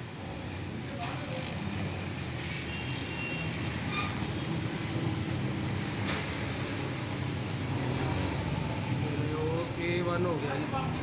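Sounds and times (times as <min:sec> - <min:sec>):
machine fan hum and whir: 0:00.0 - 0:09.9.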